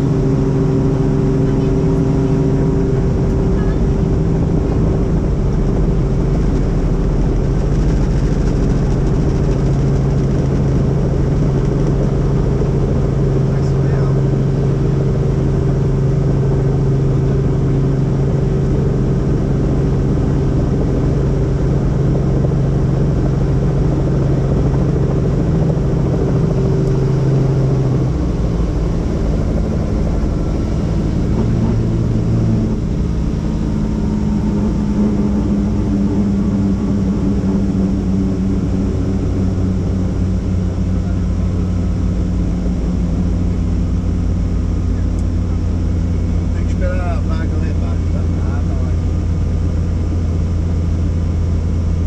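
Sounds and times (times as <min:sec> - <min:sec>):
helicopter engine and rotor drone: 0:00.0 - 0:52.0.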